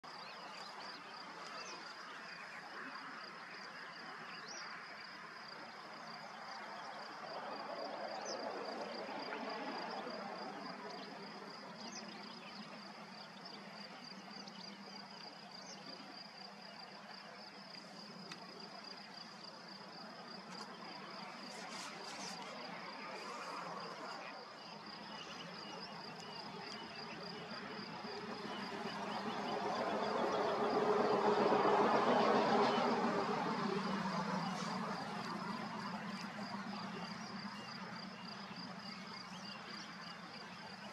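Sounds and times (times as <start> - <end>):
insect trill: 0.1 - 40.9.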